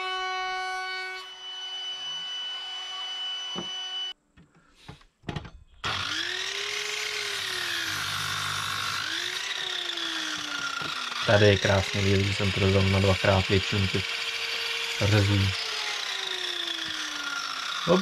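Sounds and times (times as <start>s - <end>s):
mitre saw cutting timber: 0.0s - 4.2s, 5.8s - 18.0s
wood router running: 0.0s - 4.2s, 5.8s - 18.0s.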